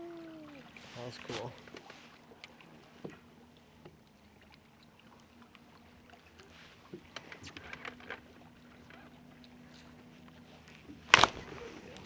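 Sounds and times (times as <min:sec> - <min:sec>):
light ticks and splashes: 0:00.0 - 0:12.0
water lapping against boat hull: 0:00.0 - 0:12.0.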